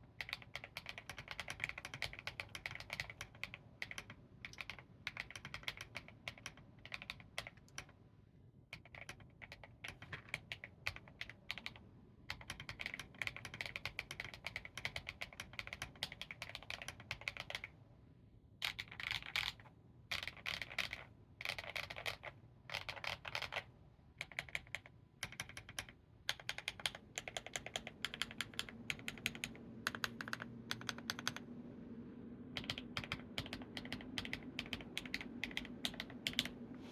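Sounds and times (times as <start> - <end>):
mechanical keyboard typing: 0.0 - 8.0, 8.7 - 17.7, 18.6 - 31.5, 32.6 - 36.6.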